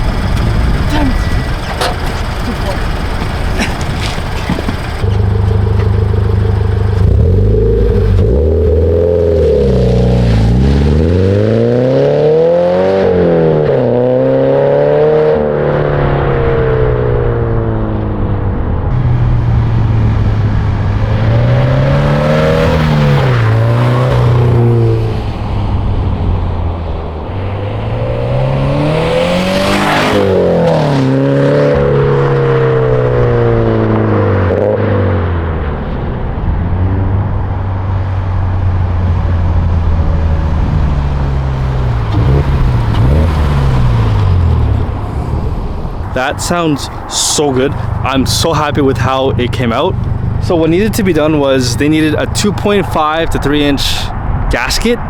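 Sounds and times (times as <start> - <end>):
car exhaust revving: 0.0 - 55.0.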